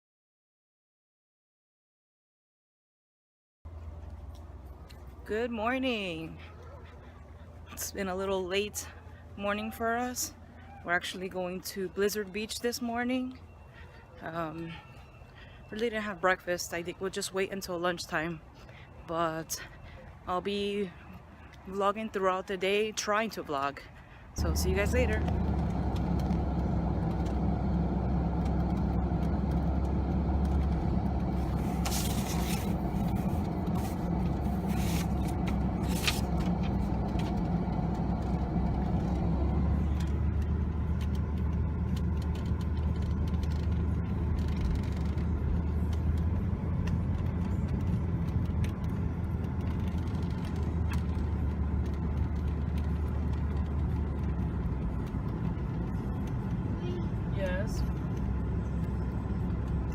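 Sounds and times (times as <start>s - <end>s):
road and engine rumble in car: 3.7s - 59.9s.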